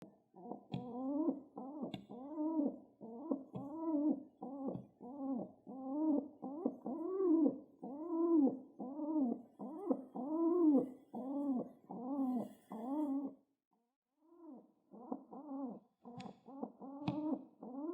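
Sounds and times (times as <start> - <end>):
pigeon cooing: 0.0 - 13.4, 14.2 - 17.9.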